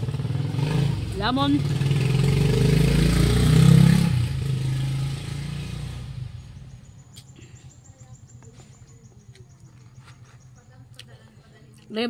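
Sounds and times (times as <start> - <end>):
vehicle engine passing by: 0.0 - 10.5.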